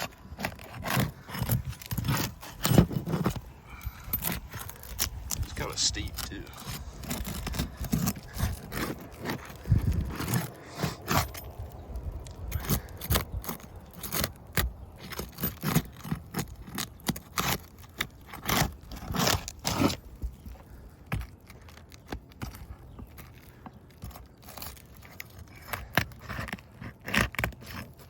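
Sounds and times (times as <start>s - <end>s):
roof shingles scraping and crackling: 0.0s - 28.0s.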